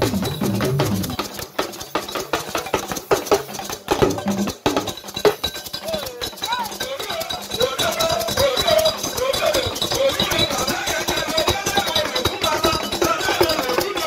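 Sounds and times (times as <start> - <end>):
quick sharp drum strokes: 0.0 - 14.0.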